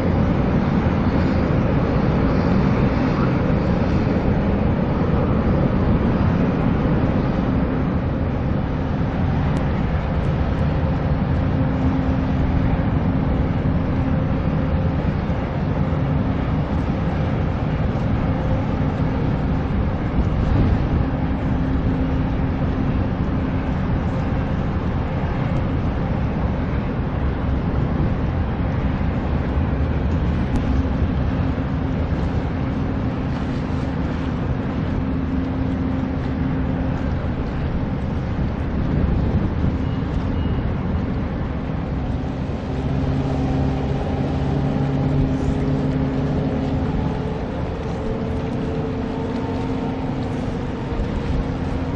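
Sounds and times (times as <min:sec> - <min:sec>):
low engine drone: 0:00.0 - 0:51.9
outdoor rushing noise: 0:00.0 - 0:51.9.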